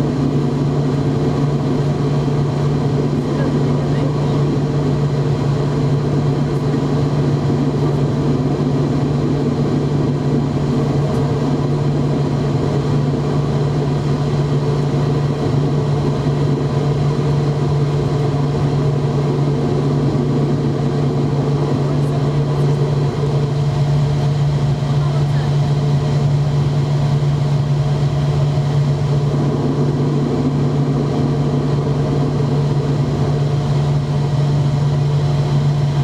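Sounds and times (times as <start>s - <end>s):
jet engines droning at low power: 0.0s - 36.0s.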